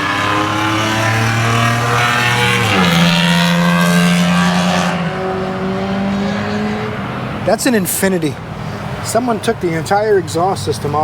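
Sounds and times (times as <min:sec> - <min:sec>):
loud raw car engine: 0:00.0 - 0:09.4.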